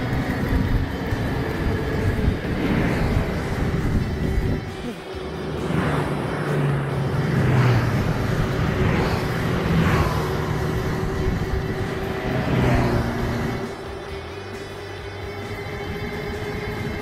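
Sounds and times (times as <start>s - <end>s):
rushes of noise: 0.0s - 17.0s
vehicle low hum: 0.0s - 17.0s.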